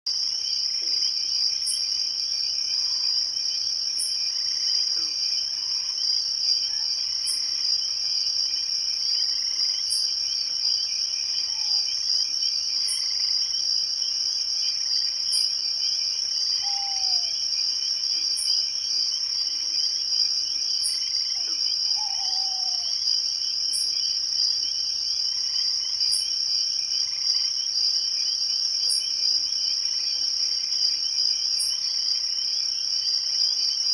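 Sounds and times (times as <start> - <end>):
insect chorus: 0.1 - 33.9.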